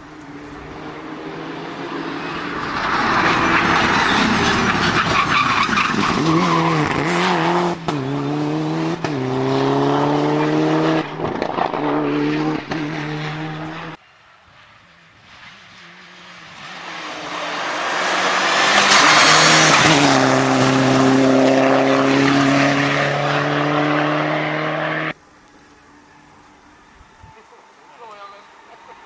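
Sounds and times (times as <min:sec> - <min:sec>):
rally car engine passing: 0:00.3 - 0:25.2.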